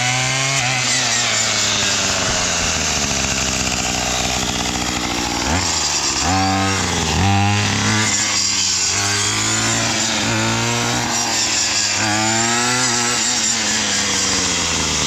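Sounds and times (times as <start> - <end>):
weed whacker engine revving: 0.0 - 15.0.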